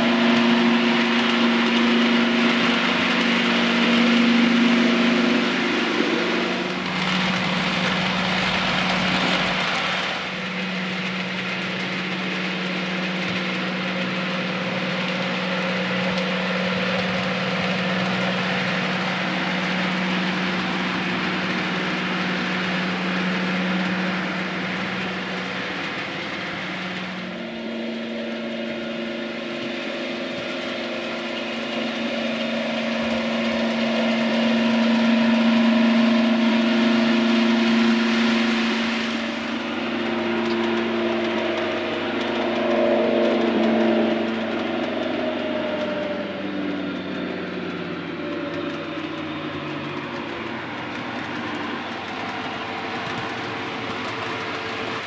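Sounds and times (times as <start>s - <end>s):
model locomotive diesel drone: 0.0s - 55.0s.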